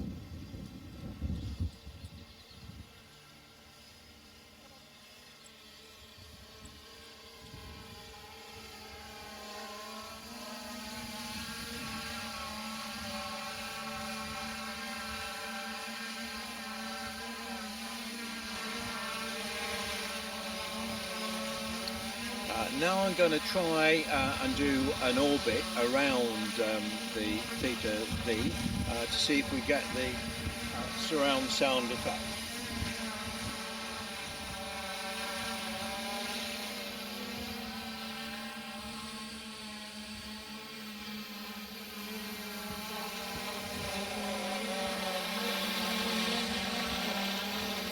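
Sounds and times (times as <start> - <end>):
drone propellers whirring: 0.0 - 47.9.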